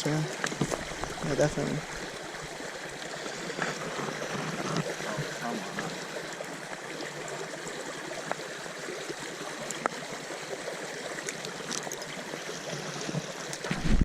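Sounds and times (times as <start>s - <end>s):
stream rushing and trickling: 0.0s - 14.0s.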